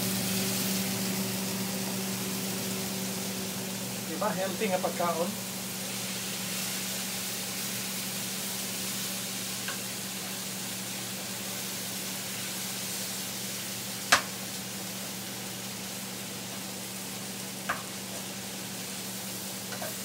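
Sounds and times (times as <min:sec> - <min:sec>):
steady low hum: 0:00.0 - 0:20.0
vegetables sizzling in hot oil: 0:00.0 - 0:20.0.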